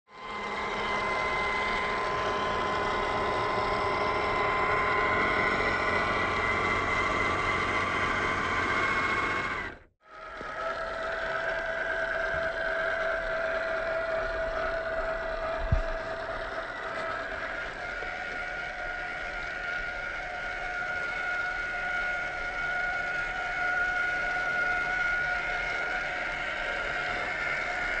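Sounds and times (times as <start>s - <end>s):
toy truck motor whining: 0.1s - 28.0s.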